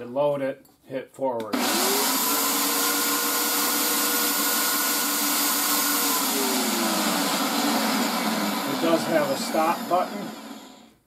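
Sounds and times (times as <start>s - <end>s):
electric winch motor whining: 1.5s - 11.0s.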